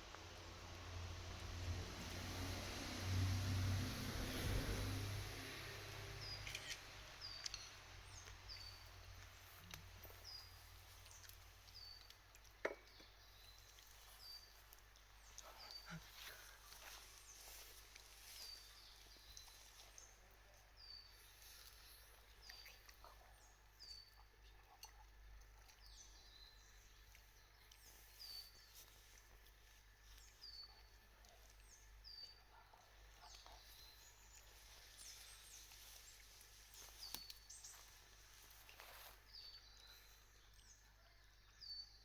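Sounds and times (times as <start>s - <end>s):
faint running water: 0.0s - 41.6s.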